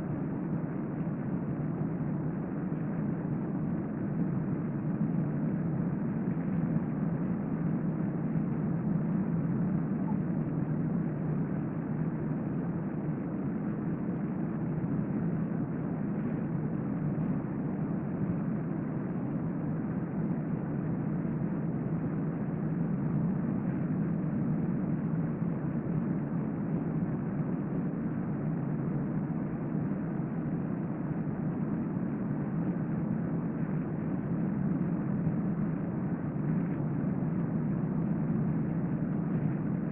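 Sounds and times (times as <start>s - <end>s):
low rumbling room noise: 0.0s - 39.9s.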